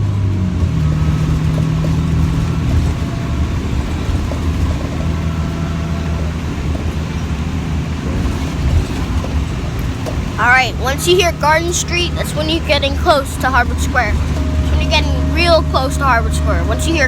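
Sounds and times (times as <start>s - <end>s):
bus engine hum: 0.0s - 17.0s
road noise: 0.0s - 17.0s.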